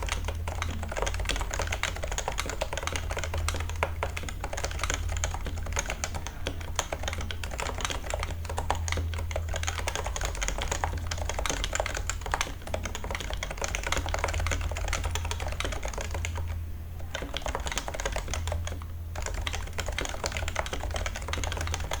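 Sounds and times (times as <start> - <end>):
keyboard typing: 0.0 - 22.0.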